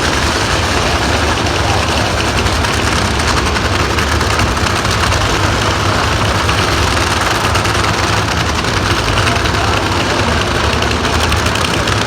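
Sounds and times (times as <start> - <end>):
dense rapid engine crackle: 0.0 - 12.0
drag racing engine running: 0.0 - 12.0.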